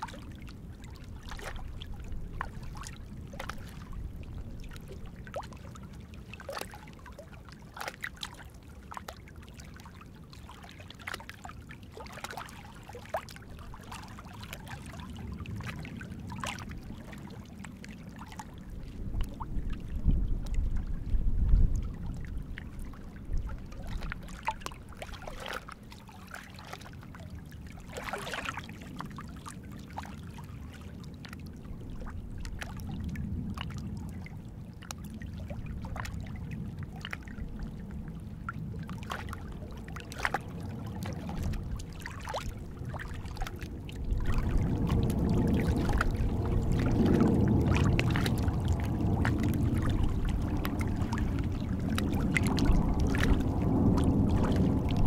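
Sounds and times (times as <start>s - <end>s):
small waves lapping on rocks: 0.0s - 55.0s.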